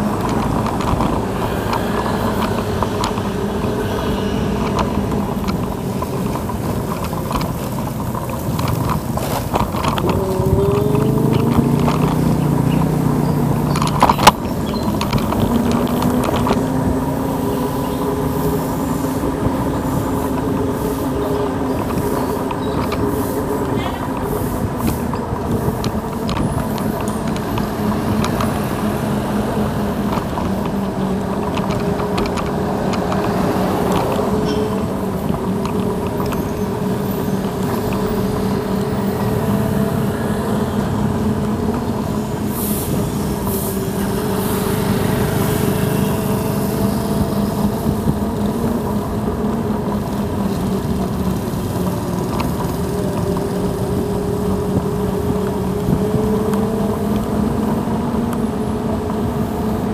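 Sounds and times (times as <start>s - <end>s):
electric scooter motor whine: 0.0s - 59.9s
road and tyre rumble: 0.0s - 59.9s.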